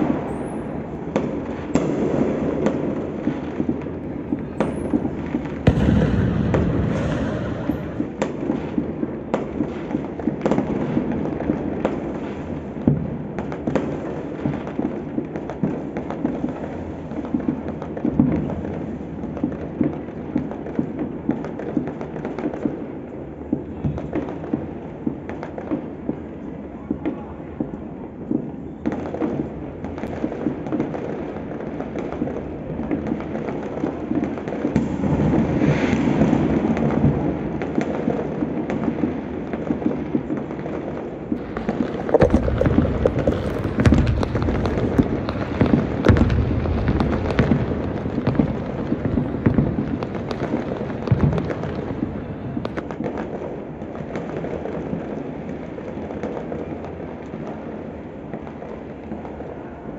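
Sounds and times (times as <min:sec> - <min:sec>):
distant fireworks bangs and crackles: 0:00.0 - 0:59.9.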